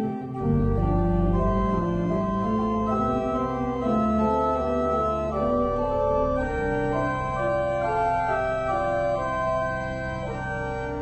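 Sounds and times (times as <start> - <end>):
church organ chords: 0.0 - 11.0
organ pedal bass notes: 0.0 - 11.0.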